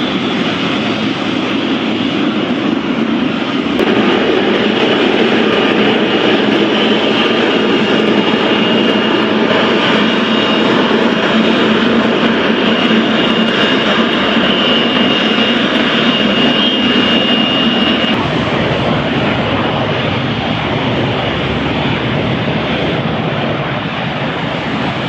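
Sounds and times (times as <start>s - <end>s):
high engine whine: 0.0s - 25.0s
jet engines roaring: 0.0s - 25.0s.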